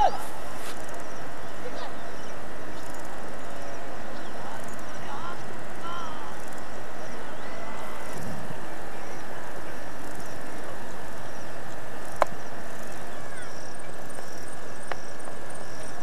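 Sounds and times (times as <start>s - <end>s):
steady dense hiss: 0.0s - 16.0s.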